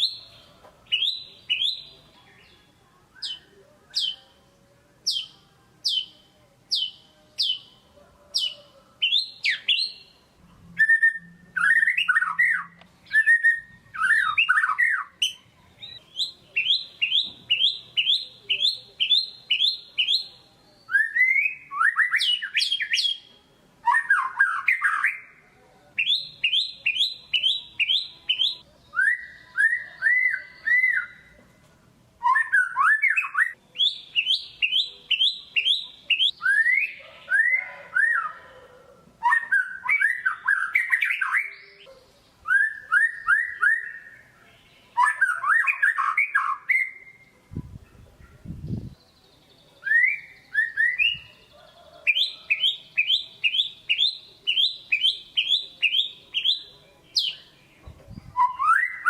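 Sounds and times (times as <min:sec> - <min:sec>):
bird singing varied song: 0:00.0 - 0:59.0.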